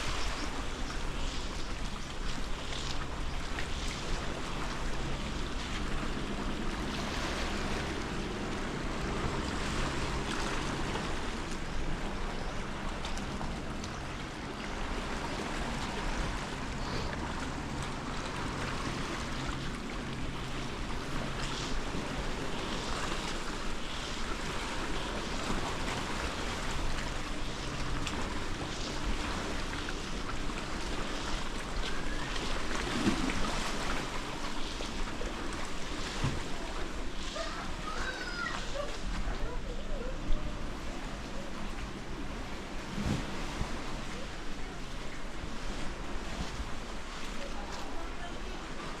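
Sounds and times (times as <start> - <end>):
surf washing: 0.0 - 49.0.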